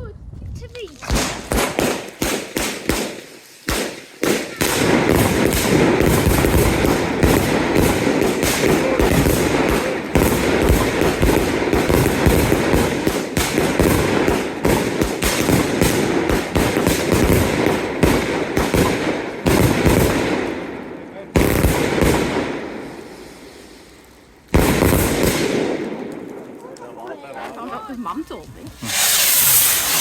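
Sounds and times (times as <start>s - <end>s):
fireworks banging and crackling: 0.7s - 30.0s.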